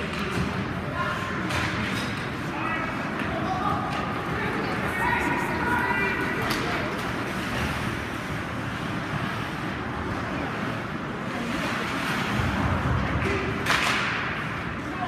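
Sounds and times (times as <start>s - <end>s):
crowd noise: 0.0s - 15.0s
skates on ice: 0.0s - 15.0s.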